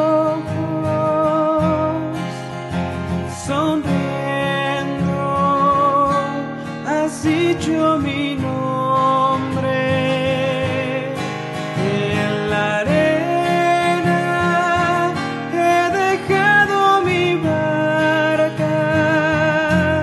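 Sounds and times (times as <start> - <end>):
strummed acoustic guitar: 0.0 - 20.0.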